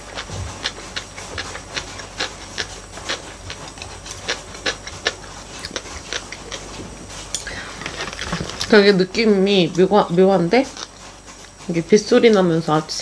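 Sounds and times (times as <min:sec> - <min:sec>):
close chewing and mouth sounds: 0:00.0 - 0:13.0.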